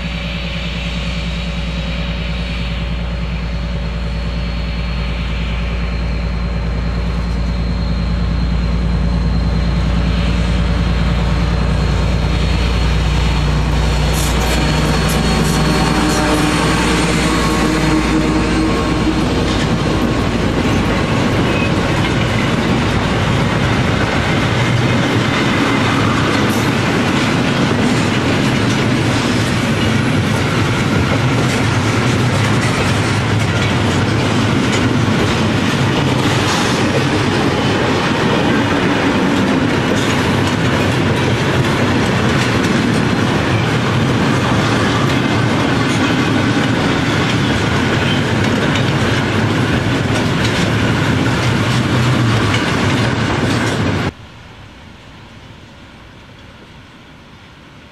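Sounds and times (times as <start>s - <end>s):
diesel locomotive engine passing: 0.0s - 57.9s
train wagons rumbling past: 0.0s - 57.9s.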